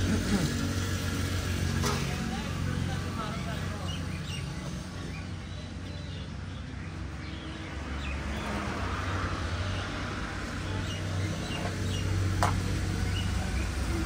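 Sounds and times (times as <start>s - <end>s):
small birds chirping: 2.4s - 14.0s.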